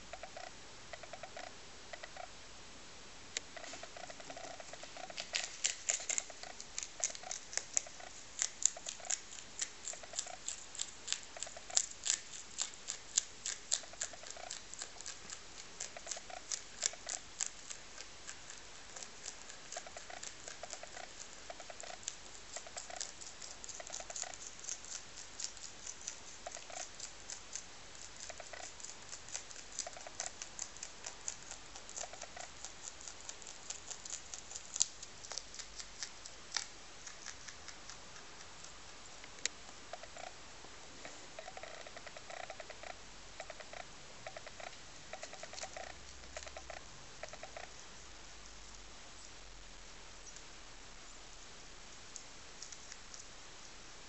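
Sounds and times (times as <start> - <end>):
rabbit chewing leaves: 0.0 - 2.4, 3.3 - 54.0.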